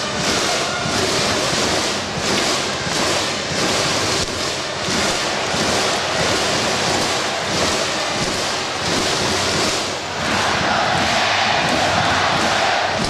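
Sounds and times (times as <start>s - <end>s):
stadium crowd cheering: 0.0s - 13.0s.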